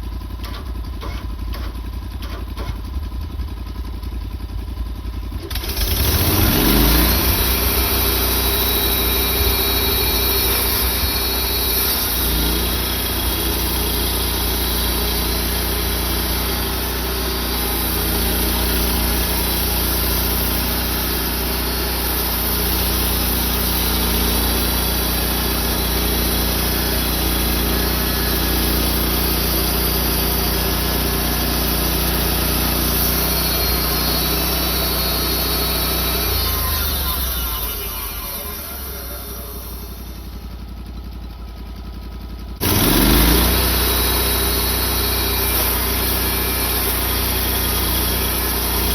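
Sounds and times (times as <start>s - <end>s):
sawmill engine running: 0.0s - 48.9s
blade hissing through log: 6.0s - 40.5s, 42.6s - 48.9s.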